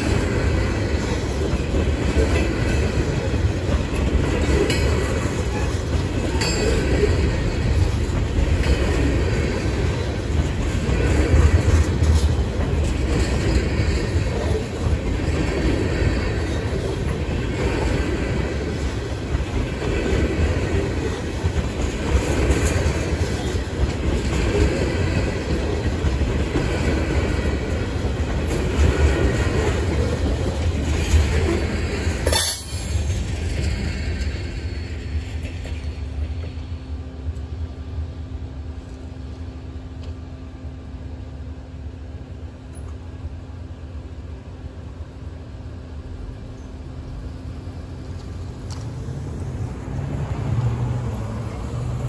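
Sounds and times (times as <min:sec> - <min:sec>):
train wheels clattering on rails: 0:00.0 - 0:37.6, 0:45.5 - 0:52.0.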